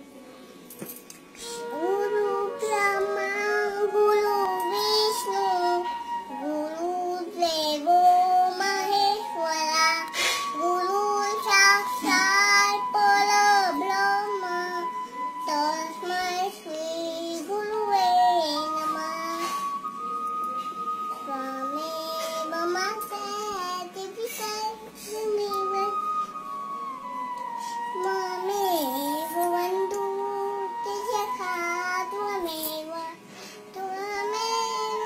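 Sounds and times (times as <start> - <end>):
toddler girl singing: 1.4 - 5.8, 6.4 - 14.8, 15.4 - 19.7, 21.2 - 26.1, 27.4 - 35.0.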